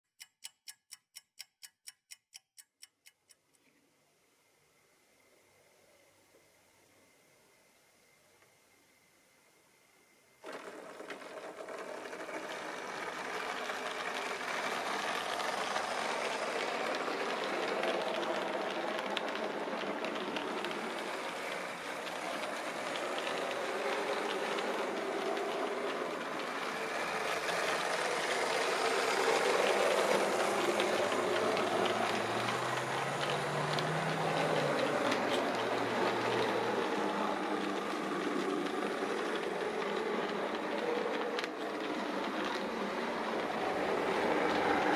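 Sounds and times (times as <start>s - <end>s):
model train running on track: 4.5s - 44.9s.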